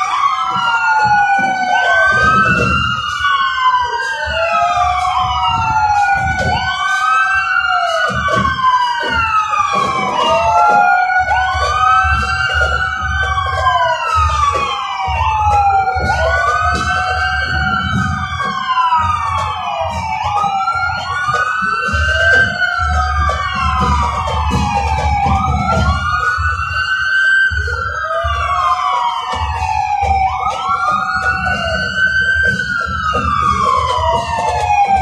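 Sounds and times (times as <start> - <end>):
sirens wailing: 0.0 - 35.0.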